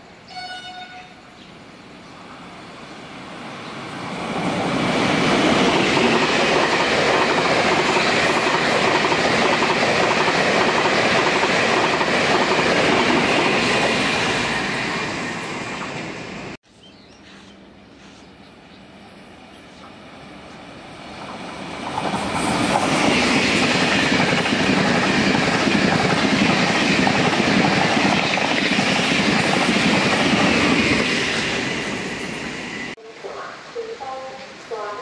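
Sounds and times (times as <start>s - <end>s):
train passing at high speed: 1.4s - 16.6s, 18.3s - 35.0s.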